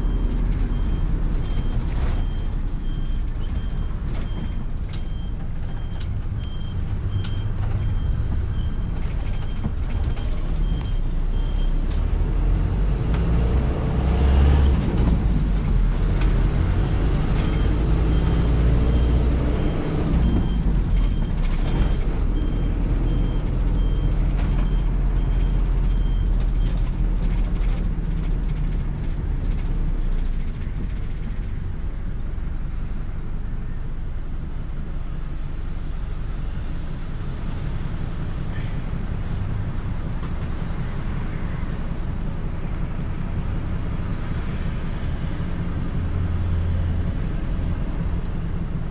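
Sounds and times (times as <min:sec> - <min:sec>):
bus engine drone: 0:00.0 - 0:48.9.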